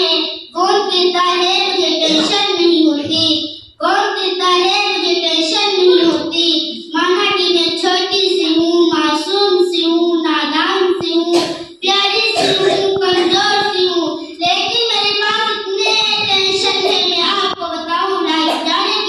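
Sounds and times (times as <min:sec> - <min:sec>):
girl singing into a microphone: 0:00.0 - 0:19.0.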